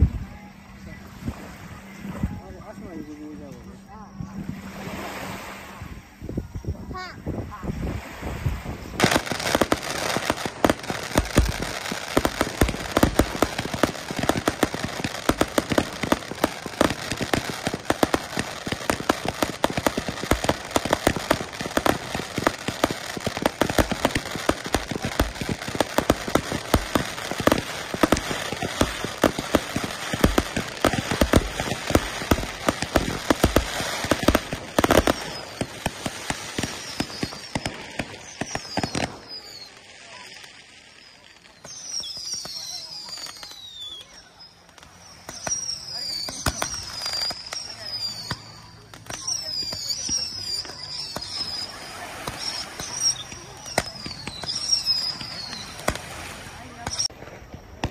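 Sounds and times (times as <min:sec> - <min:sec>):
fireworks crackling: 0:08.4 - 0:57.9
fireworks whistles: 0:08.6 - 0:57.9
fireworks bangs: 0:08.7 - 0:57.9.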